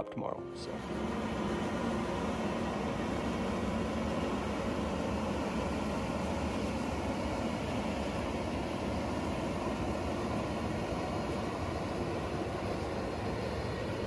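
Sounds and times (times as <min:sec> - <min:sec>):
truck diesel engine running: 0:00.4 - 0:14.0.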